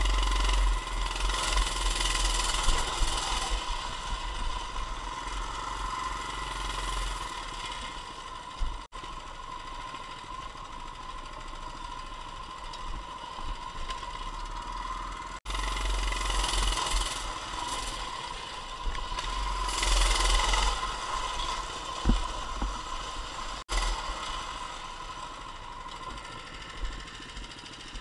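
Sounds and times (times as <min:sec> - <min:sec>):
bike rattling: 0:00.0 - 0:28.0
mini bike engine running: 0:00.0 - 0:28.0.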